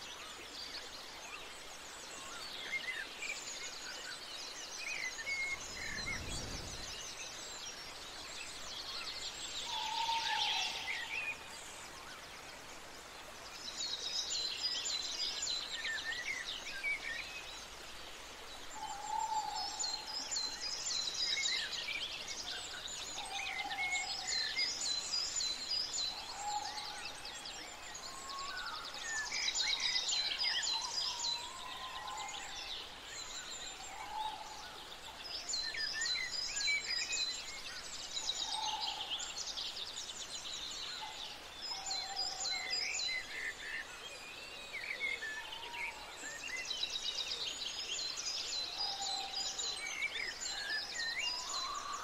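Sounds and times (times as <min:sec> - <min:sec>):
birds chirping and trilling: 0:00.0 - 0:12.9, 0:13.5 - 0:52.0.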